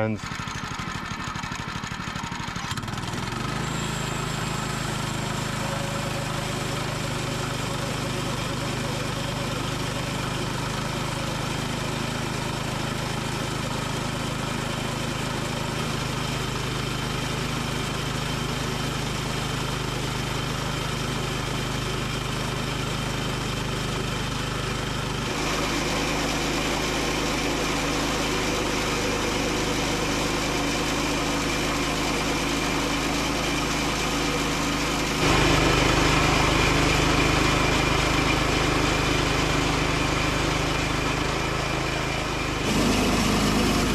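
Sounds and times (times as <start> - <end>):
sawmill engine running: 0.0 - 43.9.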